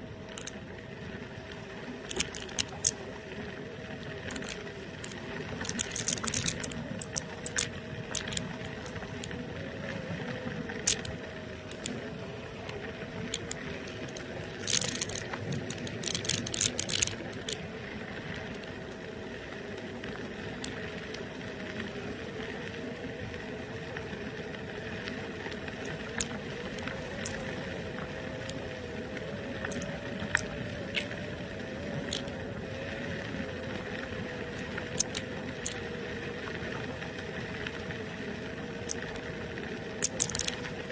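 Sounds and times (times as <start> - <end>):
gravel clicks and rattles: 0.0 - 40.9.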